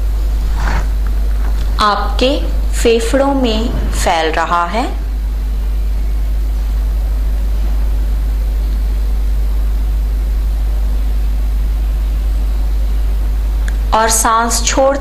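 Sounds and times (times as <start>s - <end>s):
deep low hum: 0.0s - 14.0s.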